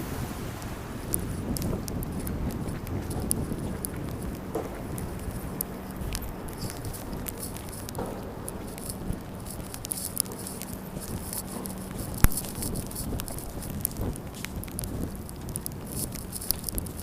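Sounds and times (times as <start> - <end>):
sleet pellets ticking: 0.6 - 17.0.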